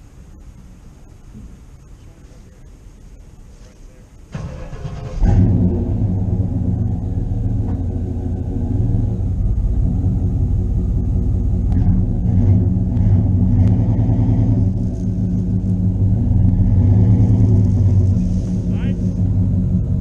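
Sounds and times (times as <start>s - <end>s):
vehicle engine running at low revs: 0.0s - 20.0s.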